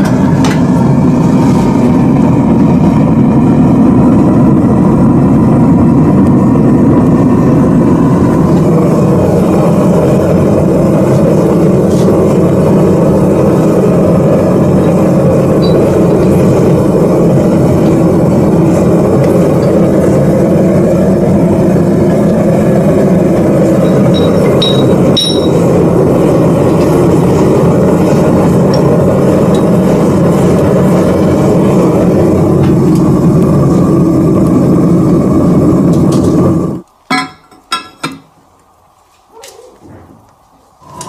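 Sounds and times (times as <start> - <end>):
gas burner roaring: 0.0 - 41.0.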